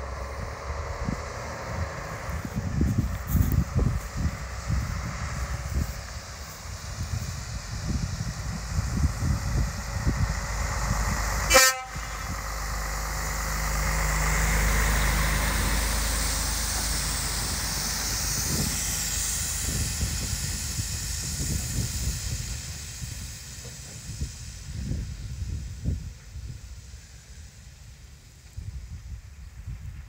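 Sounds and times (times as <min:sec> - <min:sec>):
truck diesel engine rumble: 0:00.0 - 0:30.0
tyre hiss on wet road: 0:00.0 - 0:30.0.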